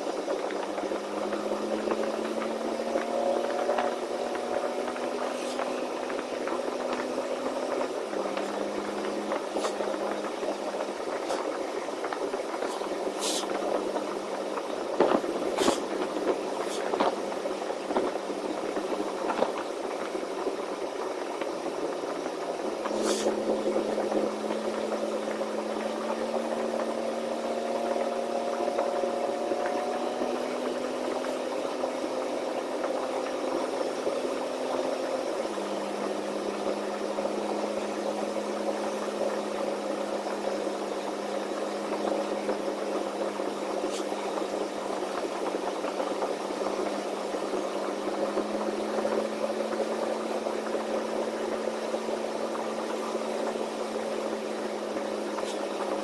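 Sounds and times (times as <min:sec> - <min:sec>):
diesel truck engine running: 0:00.0 - 0:56.0
road noise: 0:00.0 - 0:56.0.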